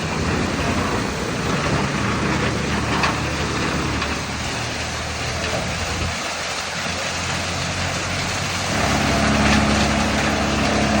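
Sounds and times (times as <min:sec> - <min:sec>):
machine engine humming: 0:00.0 - 0:06.1, 0:07.7 - 0:11.0.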